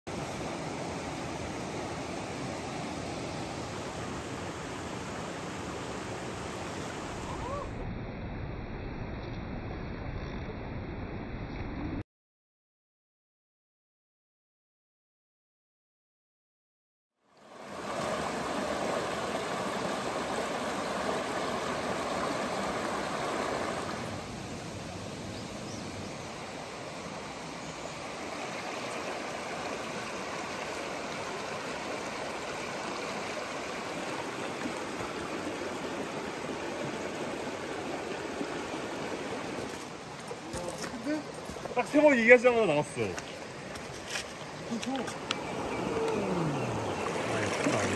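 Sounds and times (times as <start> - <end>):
stream rushing over boulders: 0.1 - 7.8, 17.3 - 47.9.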